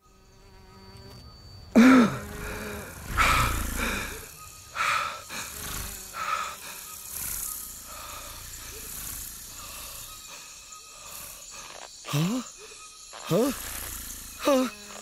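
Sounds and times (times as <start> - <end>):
heavy rasping breaths: 1.8 - 13.8.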